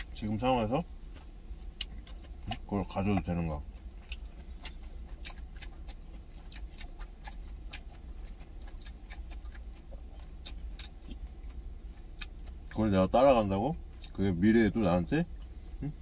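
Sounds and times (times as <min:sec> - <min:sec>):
man chewing food: 0:00.0 - 0:13.0, 0:13.7 - 0:16.0
low rumble in vehicle cab: 0:00.0 - 0:16.0.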